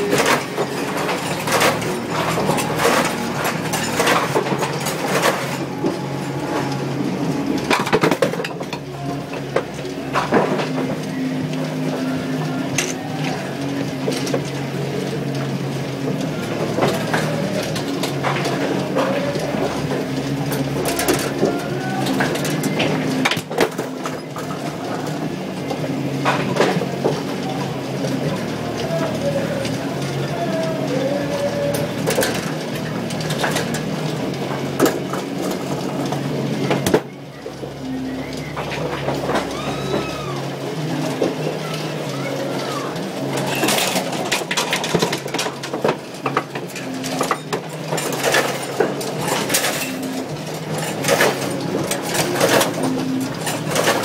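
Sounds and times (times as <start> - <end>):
machinery motor hum: 0.0 - 54.0
mechanical clicks and clatter: 0.0 - 54.0
wooden pins clacking: 0.0 - 54.0.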